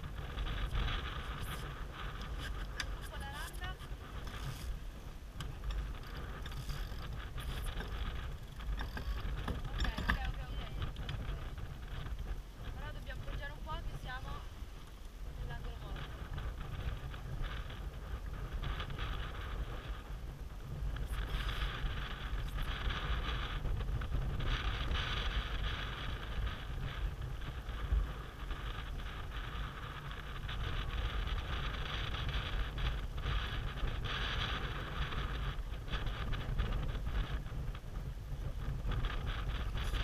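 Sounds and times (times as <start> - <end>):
water rushing along hull: 0.0 - 40.0
wind rumble on microphone: 0.0 - 40.0.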